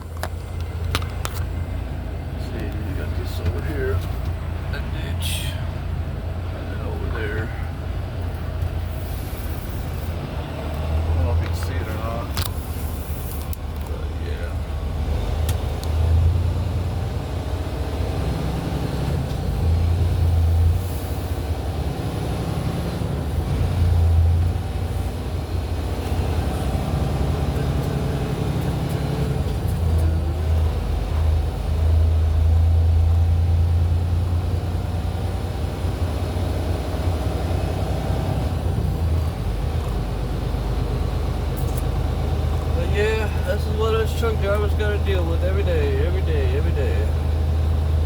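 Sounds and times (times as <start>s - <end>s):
truck diesel engine: 0.0s - 48.0s.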